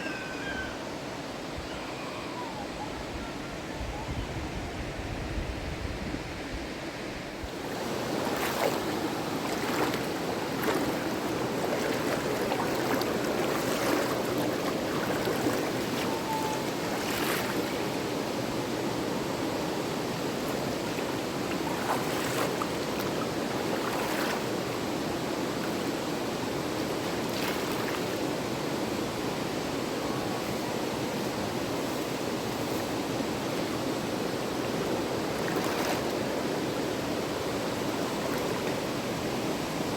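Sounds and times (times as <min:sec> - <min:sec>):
river water rushing: 0:06.6 - 0:39.9.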